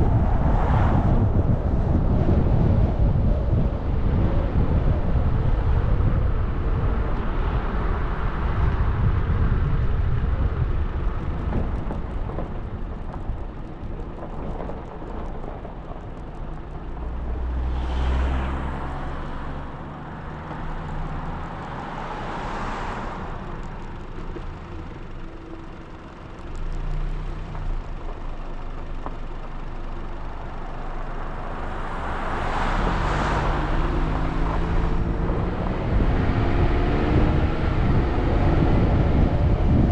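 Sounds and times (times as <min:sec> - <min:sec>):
car engine and tyre rumble: 0:00.0 - 0:39.9
vehicles passing: 0:00.0 - 0:39.9.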